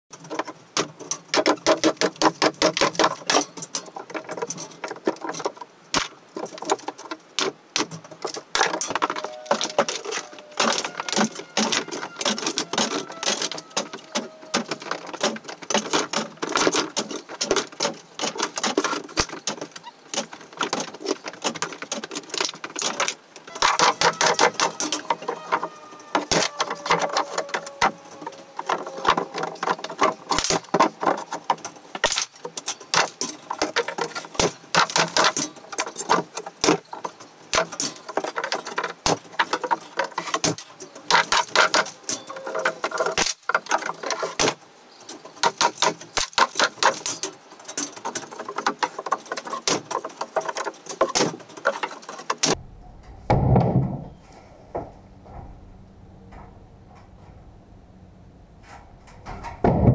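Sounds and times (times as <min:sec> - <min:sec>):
wooden boards clattering: 0:00.1 - 0:52.6, 0:58.7 - 0:59.9.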